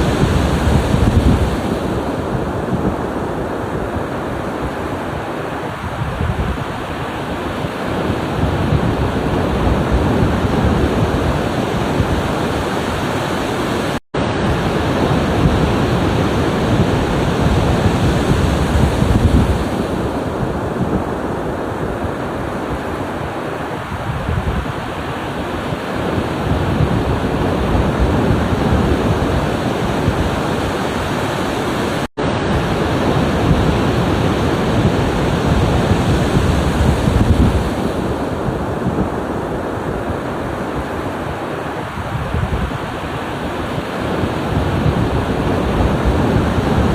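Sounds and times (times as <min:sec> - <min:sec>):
ocean surf breaking on shore: 0:00.0 - 0:46.9
wind rumbling on microphone: 0:00.0 - 0:46.9.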